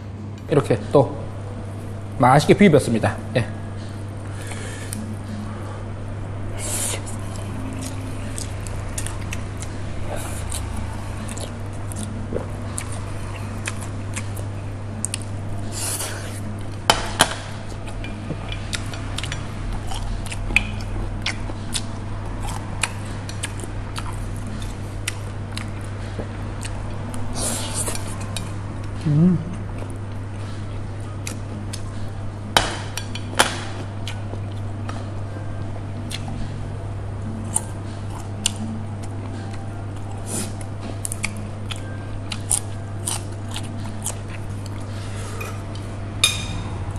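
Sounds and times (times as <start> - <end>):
low hum: 0.0 - 46.9.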